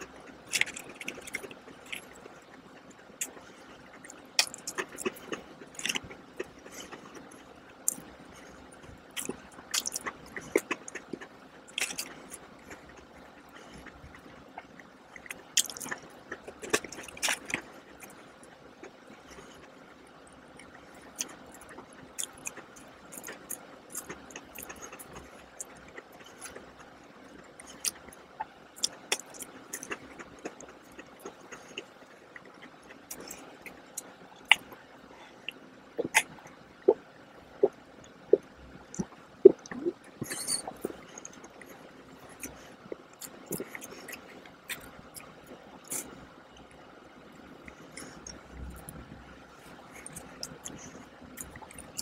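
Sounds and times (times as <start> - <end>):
person chewing cookies: 0.0 - 52.0.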